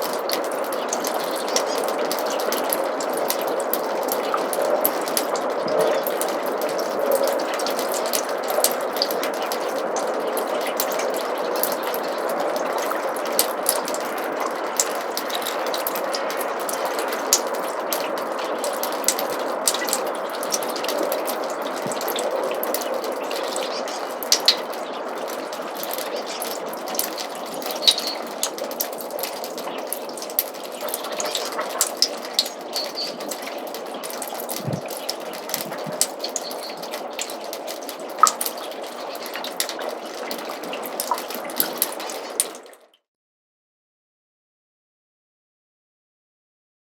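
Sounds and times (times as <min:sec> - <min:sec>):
snowmelt trickling through gutter: 0:00.0 - 0:42.9
water drips and splashes: 0:00.0 - 0:43.0.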